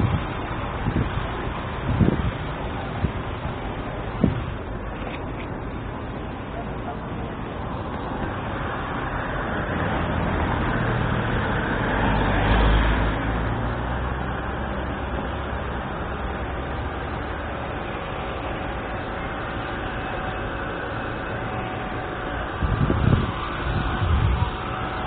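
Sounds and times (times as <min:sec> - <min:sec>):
steady traffic: 0:00.0 - 0:25.0
vehicle passing with low rumble: 0:00.0 - 0:25.0.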